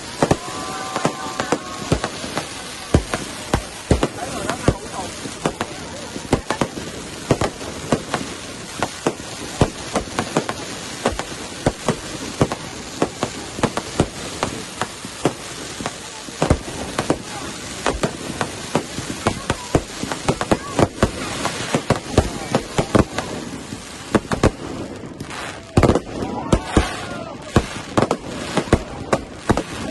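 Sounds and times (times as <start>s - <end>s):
fireworks bangs and cracks: 0.0s - 29.9s.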